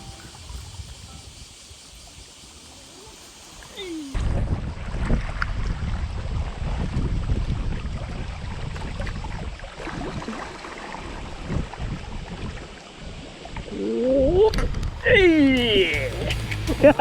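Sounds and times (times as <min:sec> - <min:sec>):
sea water: 0:00.0 - 0:17.0
wind buffeting microphone: 0:00.0 - 0:17.0.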